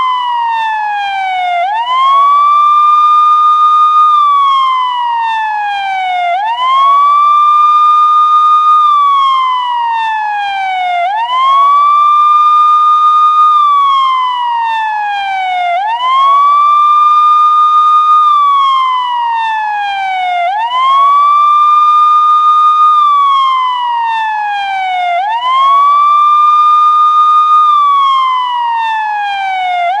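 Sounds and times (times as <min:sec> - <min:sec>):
police siren wailing: 0:00.0 - 0:30.0.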